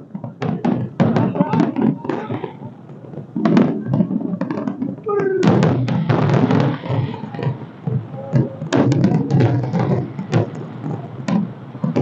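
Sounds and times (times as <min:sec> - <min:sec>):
crowd voices: 0:00.0 - 0:12.0
fireworks banging and crackling: 0:00.0 - 0:12.0.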